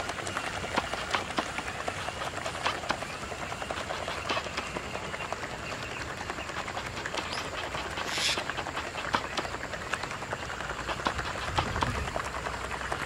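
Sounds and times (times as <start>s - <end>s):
toy boat paddle wheel splashing: 0.0s - 13.0s.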